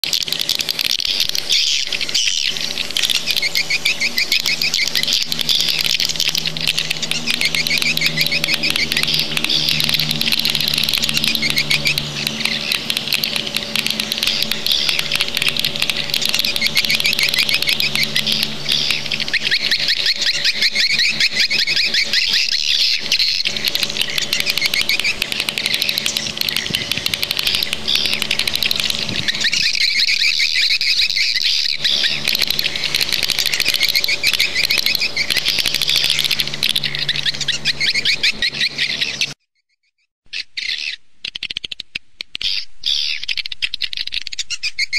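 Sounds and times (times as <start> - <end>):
swiftlet chirping chatter: 0.0 - 39.4.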